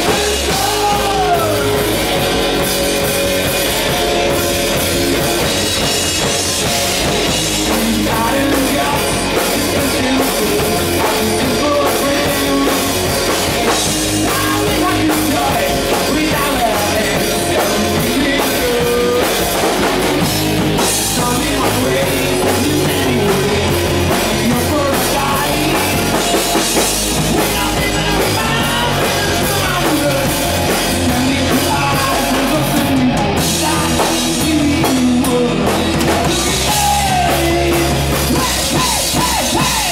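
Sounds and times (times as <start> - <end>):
hard rock band playing: 0.0 - 39.9.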